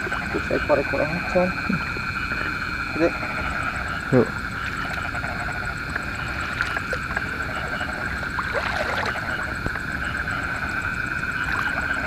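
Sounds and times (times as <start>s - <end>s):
frogs and insects trilling: 0.0s - 12.0s.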